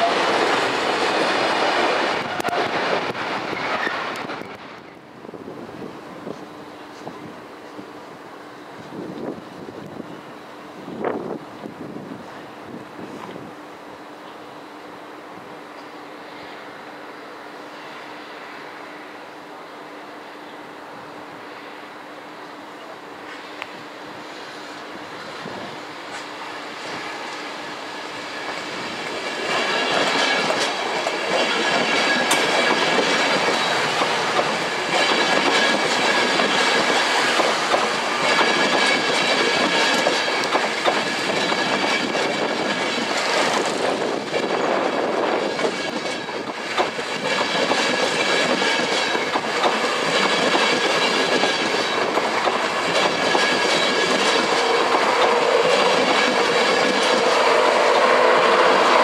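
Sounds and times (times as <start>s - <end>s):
train running past: 0.0s - 59.0s.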